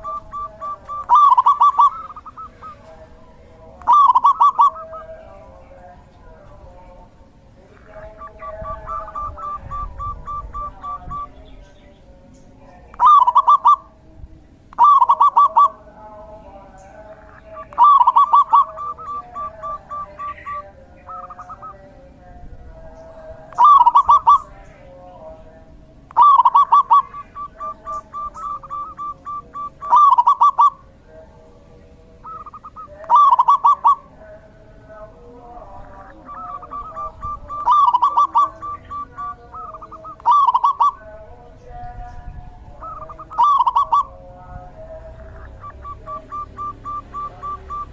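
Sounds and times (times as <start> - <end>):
dove cooing: 0.0 - 5.8, 7.6 - 11.7, 12.9 - 14.0, 14.7 - 22.0, 22.8 - 25.0, 26.1 - 31.2, 32.1 - 41.3, 42.6 - 47.9.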